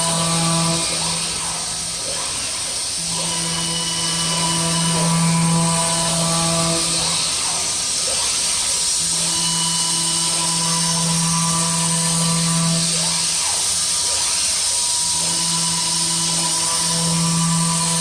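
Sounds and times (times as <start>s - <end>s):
low machine tone: 0.0s - 18.0s
machine tool cutting hiss: 0.0s - 18.0s.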